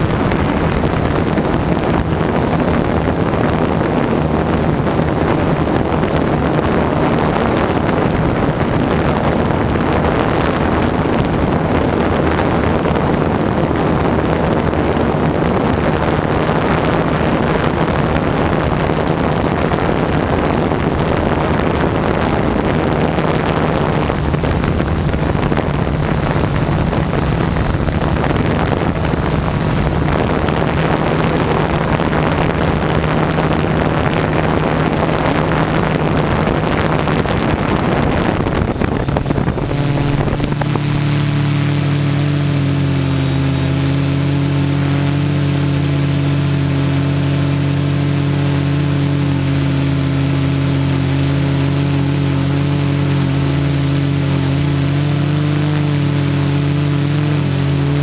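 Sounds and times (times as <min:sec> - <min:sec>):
drone motors humming: 0:00.0 - 0:58.0
wind rush: 0:00.0 - 0:58.0.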